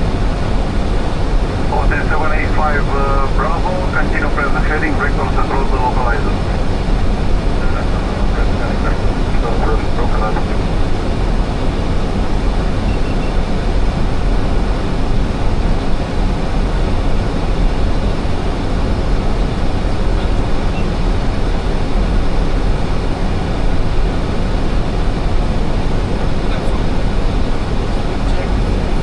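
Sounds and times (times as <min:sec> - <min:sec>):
aircraft cockpit rushing noise: 0:00.0 - 0:29.0.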